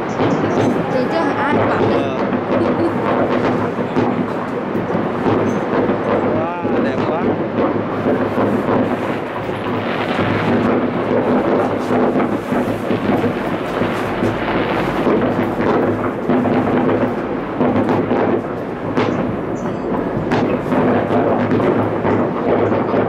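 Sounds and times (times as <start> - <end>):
fireworks rumble and crackle: 0.0 - 23.0
sharp firework bangs: 0.0 - 23.0.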